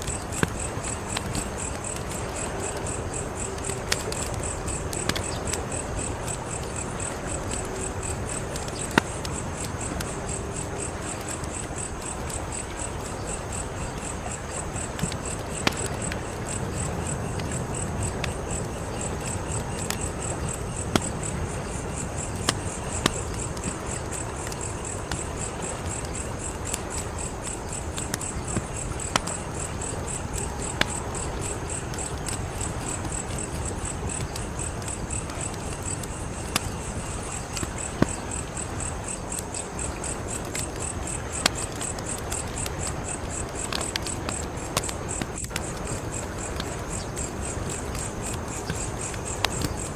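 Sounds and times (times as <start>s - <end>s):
crickets chirping: 0.0s - 49.9s
wood fire crackling and popping: 0.0s - 49.9s.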